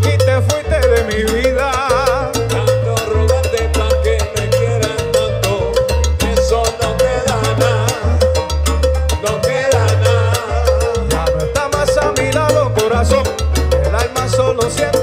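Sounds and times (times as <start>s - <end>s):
congas and bongos: 0.0s - 15.0s
salsa band playing: 0.0s - 15.0s
vibrato melody line: 0.0s - 15.0s.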